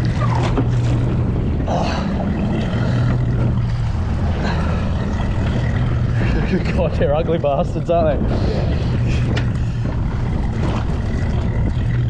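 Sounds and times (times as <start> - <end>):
outboard motor idling: 0.0 - 12.0
water splashing against boat: 0.0 - 12.0
wind noise: 0.0 - 12.0.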